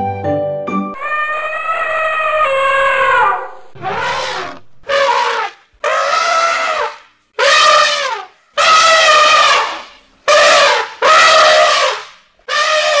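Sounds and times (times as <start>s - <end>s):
elephant trumpeting: 1.0s - 13.0s.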